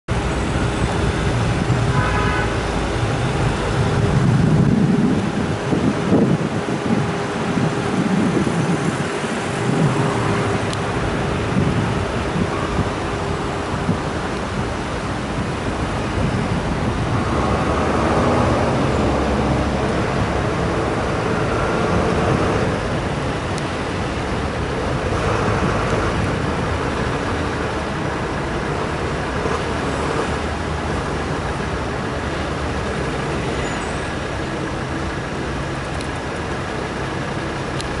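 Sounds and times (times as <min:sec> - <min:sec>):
road traffic passing: 0:00.1 - 0:38.0.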